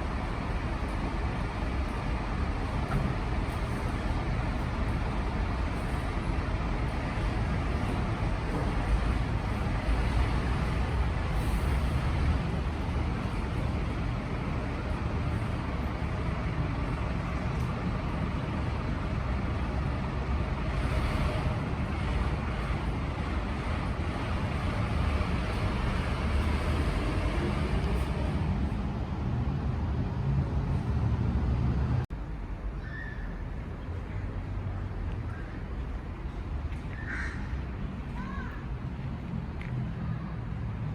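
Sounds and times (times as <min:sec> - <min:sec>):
street traffic rumble: 0:00.0 - 0:40.9.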